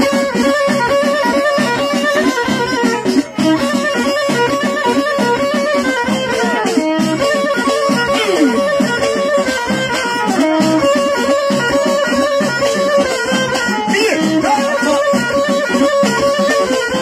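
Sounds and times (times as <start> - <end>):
folk music: 0.0 - 17.0.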